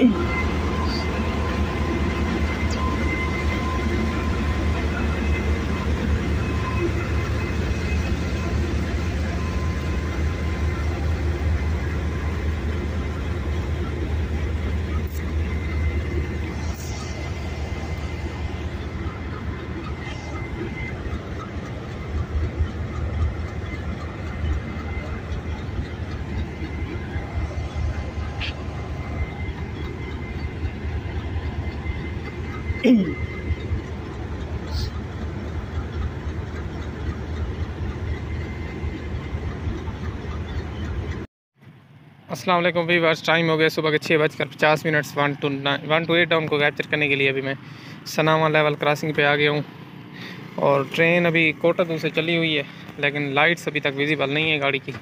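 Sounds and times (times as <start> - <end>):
locomotive engine idling: 0.0 - 41.3, 42.9 - 55.0.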